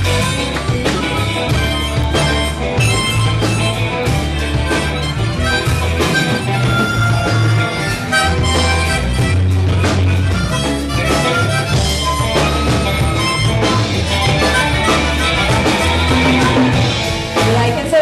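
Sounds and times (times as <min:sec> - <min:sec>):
harmonica lead line: 0:00.0 - 0:18.0
live rock band playing: 0:00.0 - 0:18.0.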